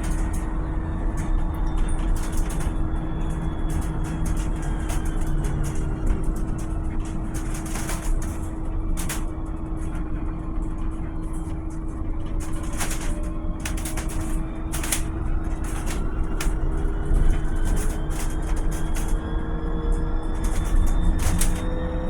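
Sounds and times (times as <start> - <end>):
electric bus rumble and hum: 0.0 - 22.0
rattling clicks: 1.2 - 10.1, 11.2 - 22.0.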